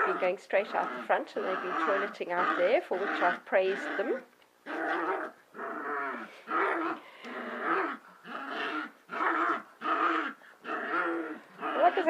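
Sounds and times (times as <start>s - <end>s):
puppies growling and yapping: 0.0s - 12.0s.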